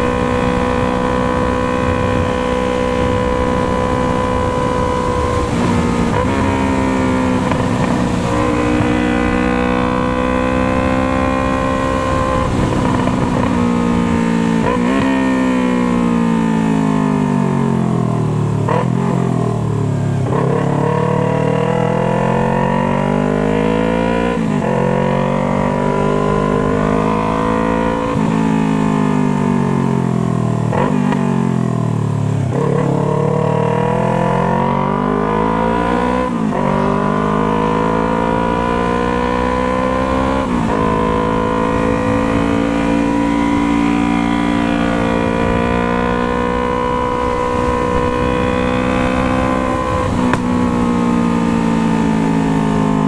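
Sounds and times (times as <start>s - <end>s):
motorcycle exhaust revving: 0.0s - 53.0s
wind rumble on microphone: 0.0s - 53.0s.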